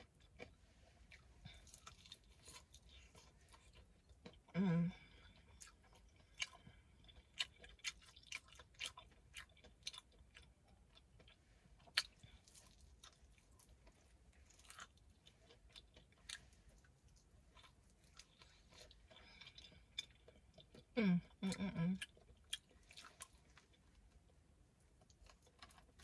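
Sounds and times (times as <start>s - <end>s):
chewing fried chicken: 0.0s - 26.0s.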